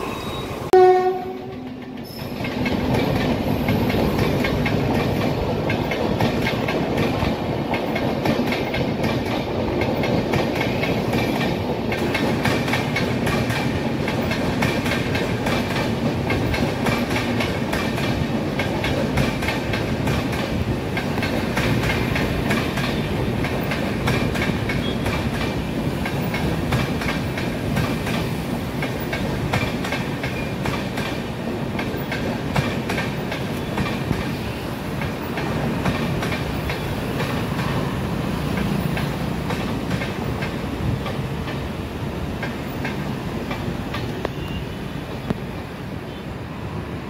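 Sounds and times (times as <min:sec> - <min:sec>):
low train rumble: 0:00.0 - 0:47.0.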